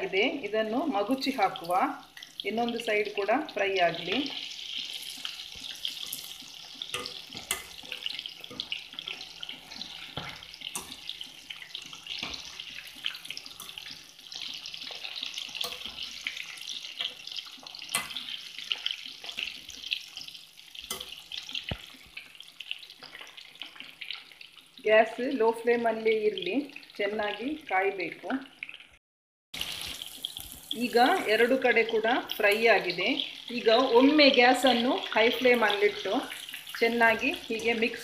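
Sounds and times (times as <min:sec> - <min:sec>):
chicken deep-frying in oil: 0:00.0 - 0:29.0, 0:29.6 - 0:38.0.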